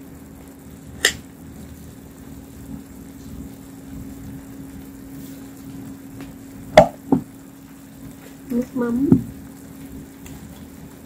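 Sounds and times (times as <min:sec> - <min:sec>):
appliance mechanical hum: 0:00.0 - 0:11.0.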